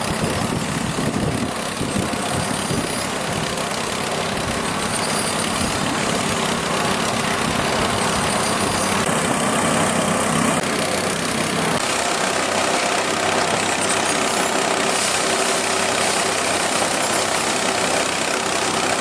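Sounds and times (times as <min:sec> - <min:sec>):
small engine running under load: 0:00.0 - 0:19.0.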